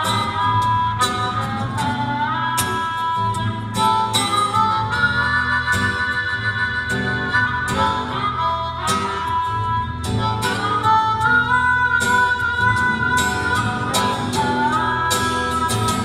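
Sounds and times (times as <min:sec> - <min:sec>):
acoustic guitar strumming: 0:00.0 - 0:16.0
harmonica melody: 0:00.0 - 0:16.0.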